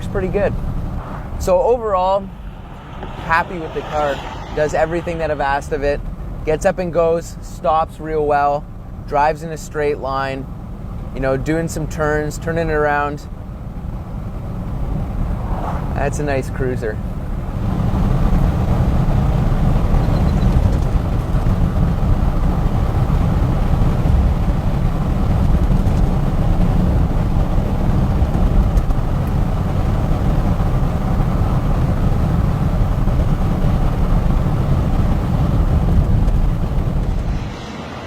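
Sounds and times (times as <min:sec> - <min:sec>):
car engine rumble: 0:00.0 - 0:38.0
road noise: 0:00.0 - 0:38.0.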